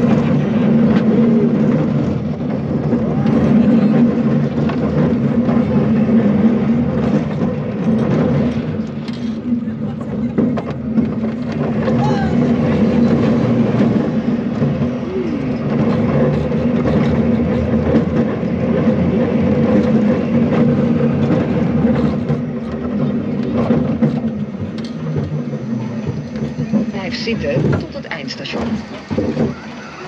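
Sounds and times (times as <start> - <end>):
roller coaster wheels rumbling on track: 0.0 - 30.0.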